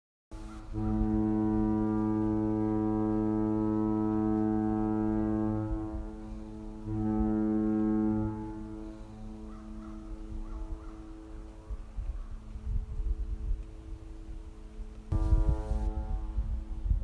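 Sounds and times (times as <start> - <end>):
low horn-like tone: 0.4 - 17.0.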